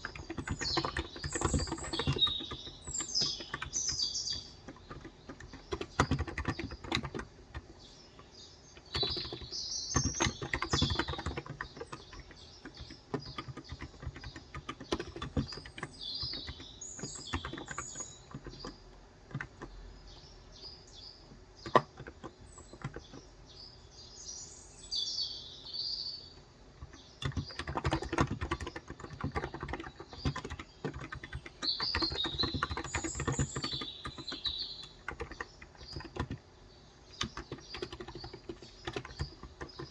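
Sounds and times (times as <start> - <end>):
keyboard typing: 0.0 - 19.9, 21.6 - 23.3, 26.3 - 39.9
small birds chirping: 0.0 - 39.9.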